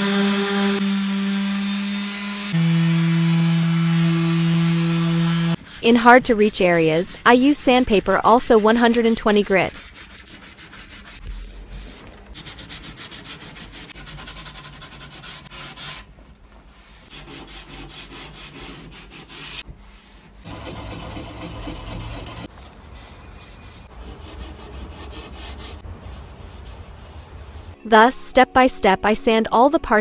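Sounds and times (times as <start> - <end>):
sandpaper scraping wood: 0.0 - 16.1, 16.8 - 27.8.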